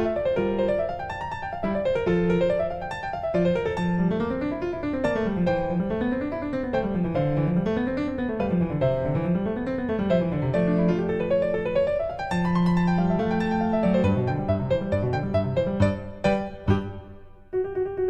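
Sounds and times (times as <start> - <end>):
piano arpeggios: 0.0 - 18.0.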